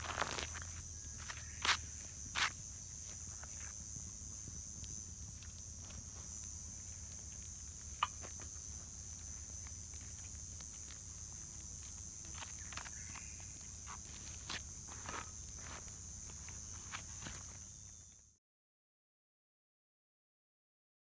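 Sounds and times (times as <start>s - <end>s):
high-pitched insect chorus: 0.0s - 18.3s.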